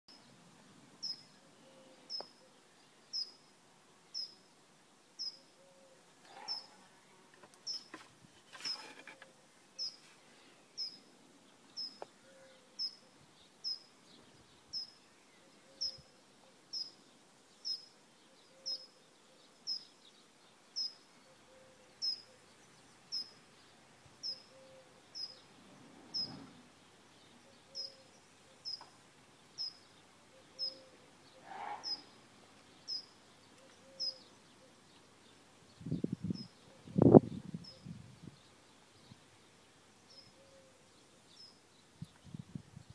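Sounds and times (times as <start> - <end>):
songbird chirping: 1.0 - 42.9.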